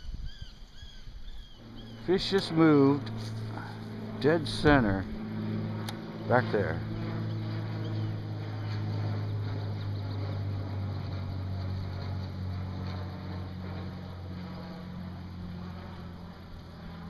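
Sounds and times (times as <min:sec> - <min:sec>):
boat motor humming: 0:01.4 - 0:17.0.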